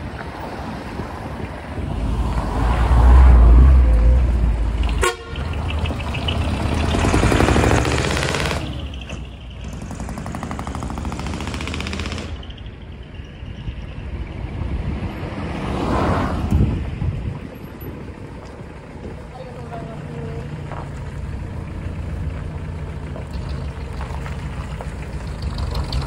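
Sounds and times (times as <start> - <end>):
truck engines driving past: 0.0 - 26.0.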